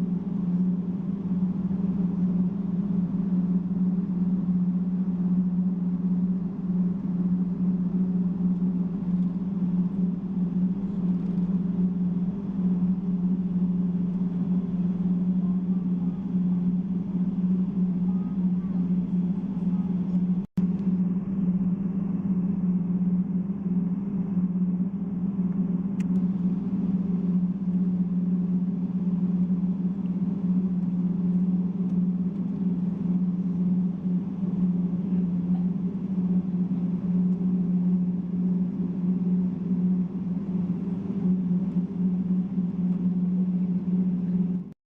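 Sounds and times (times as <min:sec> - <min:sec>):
airplane cabin engine drone: 0:00.0 - 0:44.8.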